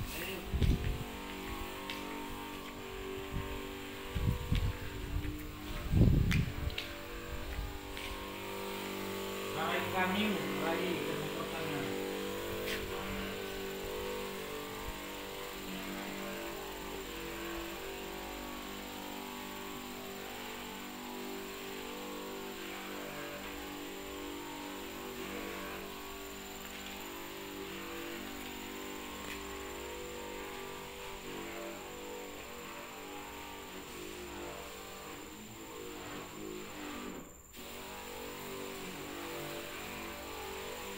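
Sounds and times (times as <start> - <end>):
electric pump motor humming: 0.0 - 40.9.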